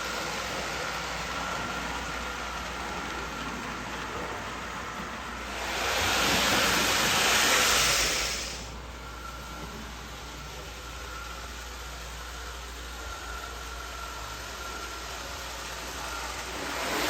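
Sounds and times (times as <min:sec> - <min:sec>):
toy train motor and wheels whirring: 0:00.0 - 0:17.0.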